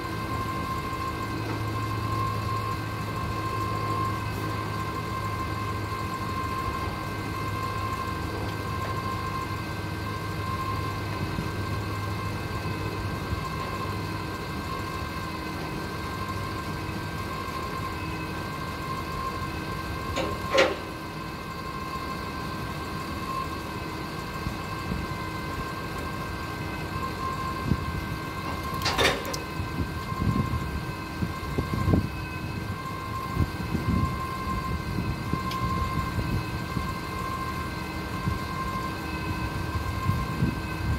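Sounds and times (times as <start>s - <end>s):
forklift engine idling with whine: 0.0s - 40.9s.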